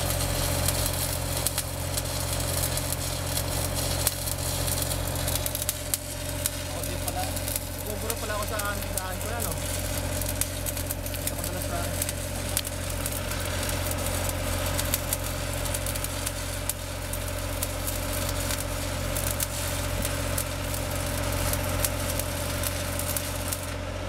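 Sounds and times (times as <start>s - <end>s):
low machine hum: 0.0s - 24.0s
welding arc crackling: 0.0s - 24.0s.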